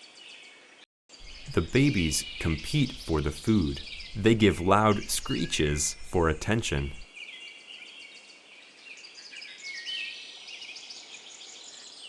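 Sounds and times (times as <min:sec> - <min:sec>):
small birds chirping: 0:01.1 - 0:12.0.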